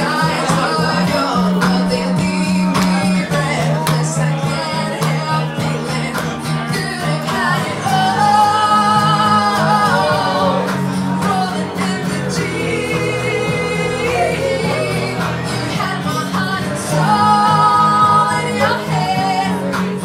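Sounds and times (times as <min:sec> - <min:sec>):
guitar accompaniment: 0:00.0 - 0:20.0
woman singing into microphone: 0:00.0 - 0:20.0.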